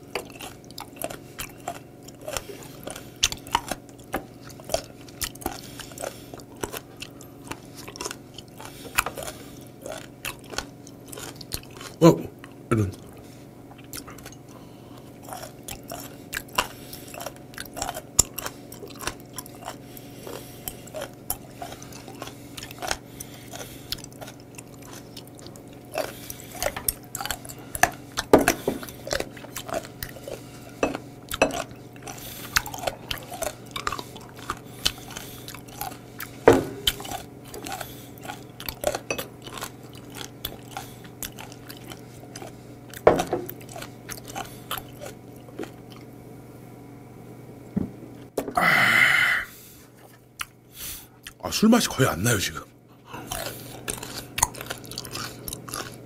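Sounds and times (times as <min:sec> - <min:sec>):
crunchy chewing: 0:00.0 - 0:46.2, 0:49.5 - 0:51.4, 0:52.9 - 0:56.0.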